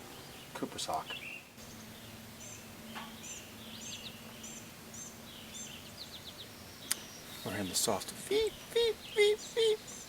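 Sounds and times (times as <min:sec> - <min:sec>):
lower bird chirps: 0:00.0 - 0:10.0.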